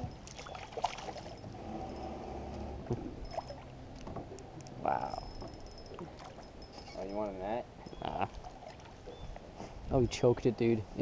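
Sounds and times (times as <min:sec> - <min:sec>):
water splashing beside boat: 0:00.0 - 0:09.6.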